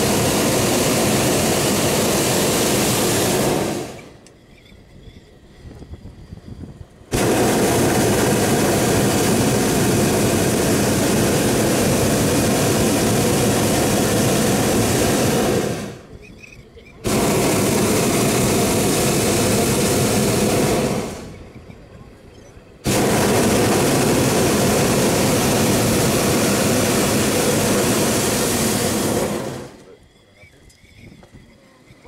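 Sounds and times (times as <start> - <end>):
propane burner roaring: 0.0 - 4.5, 5.3 - 16.2, 17.0 - 30.0.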